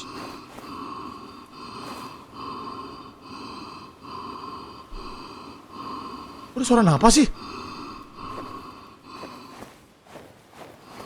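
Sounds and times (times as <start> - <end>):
hissy breathing pulses: 0.0 - 11.0.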